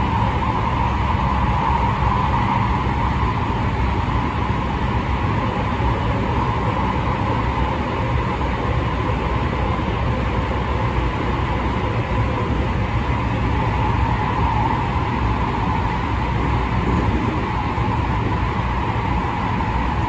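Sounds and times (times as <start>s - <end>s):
steady mid-pitched hum: 0.0s - 20.0s
wheels rumbling on rail: 0.0s - 20.0s.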